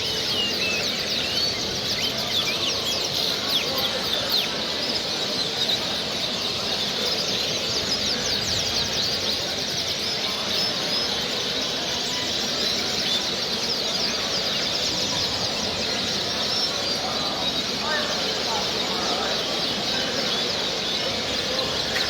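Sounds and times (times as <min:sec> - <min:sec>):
background hubbub: 0:00.0 - 0:22.0
songbirds chirping: 0:00.0 - 0:22.0.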